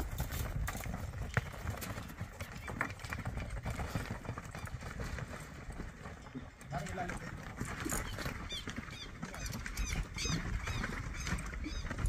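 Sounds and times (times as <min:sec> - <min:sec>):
horse hoofbeats on dirt: 0:00.0 - 0:12.0.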